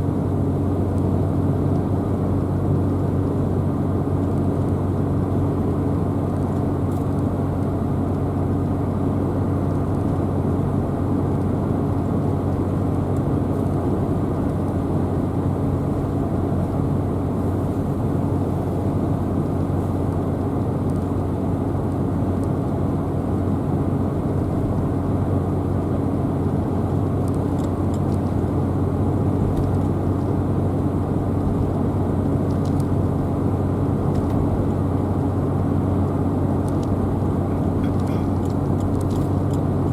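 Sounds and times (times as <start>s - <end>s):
car driving: 3.2s - 39.9s.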